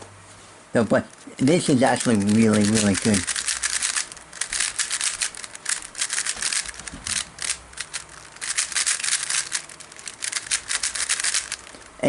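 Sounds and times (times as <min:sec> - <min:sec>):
puzzle cube clicking turns: 0:01.8 - 0:12.0.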